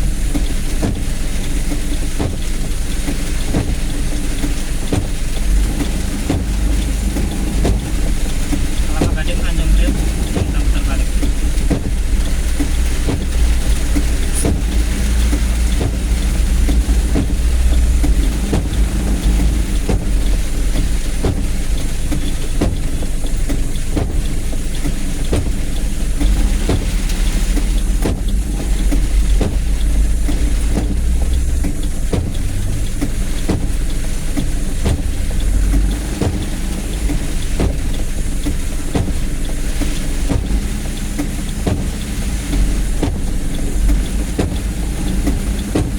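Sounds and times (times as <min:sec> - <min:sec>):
rain hiss: 0:00.0 - 0:45.9
rain ticks: 0:00.0 - 0:45.9
vehicle rumble: 0:00.0 - 0:45.9.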